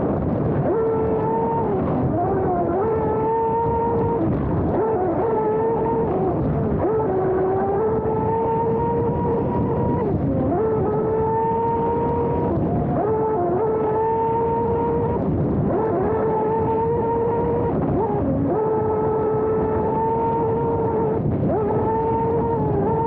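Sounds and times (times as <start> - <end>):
electric boat motor whining: 0.0 - 23.0.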